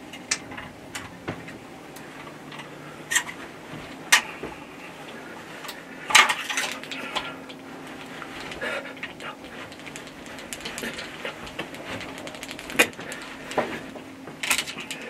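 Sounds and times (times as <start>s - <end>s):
sharp clicks and light knocks: 0.0s - 15.0s.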